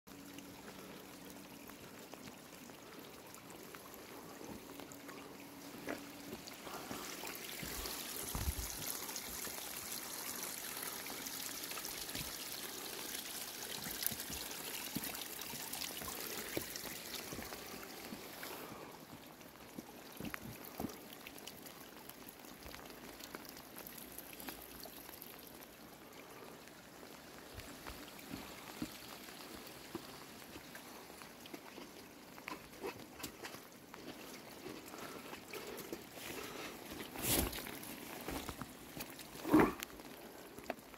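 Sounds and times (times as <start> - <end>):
water trickling over rock: 0.1 - 40.9.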